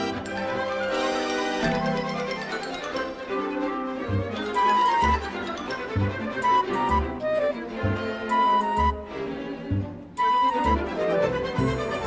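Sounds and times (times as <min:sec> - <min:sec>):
music with repeating melody: 0:00.0 - 0:12.0.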